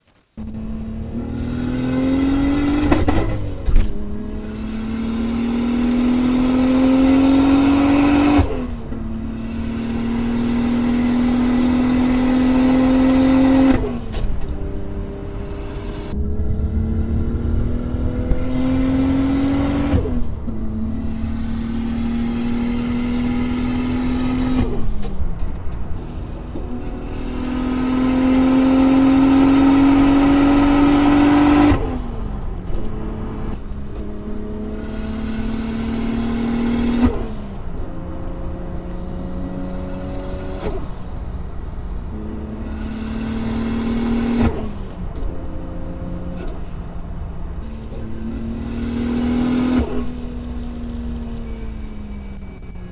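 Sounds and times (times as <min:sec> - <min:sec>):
car engine revving: 0:00.3 - 0:52.9.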